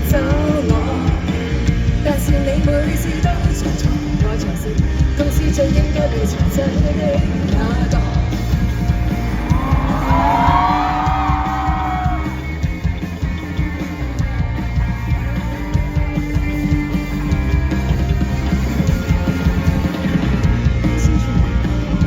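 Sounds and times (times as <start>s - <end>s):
pop rock band music: 0.0s - 22.0s.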